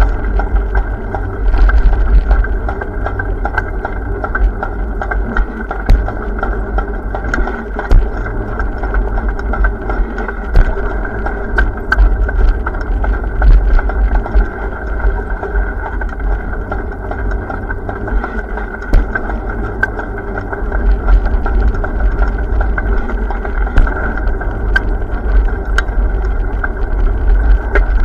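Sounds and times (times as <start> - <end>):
bike riding rumble and hum: 0.0 - 28.0.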